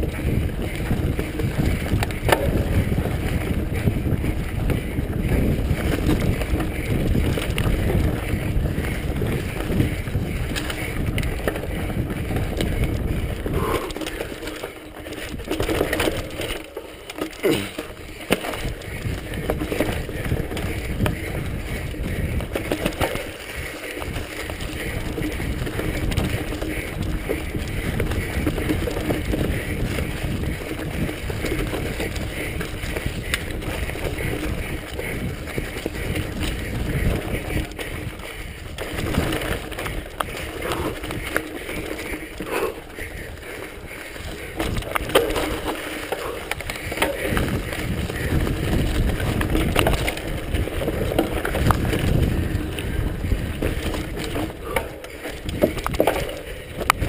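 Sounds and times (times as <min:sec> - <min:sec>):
bike rattling and knocking: 0:00.0 - 0:57.0
bike tyres rumbling on dirt: 0:00.0 - 0:57.0.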